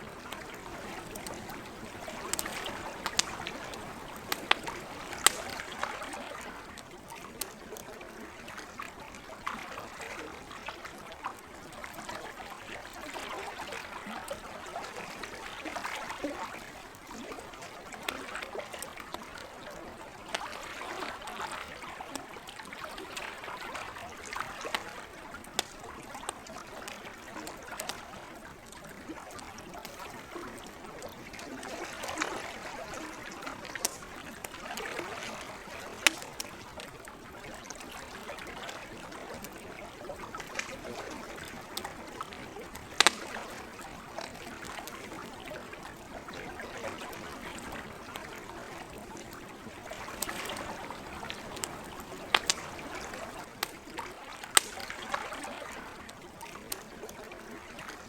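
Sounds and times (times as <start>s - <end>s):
campfire crackling: 0.0s - 58.0s
gentle lake water trickling: 0.0s - 58.0s.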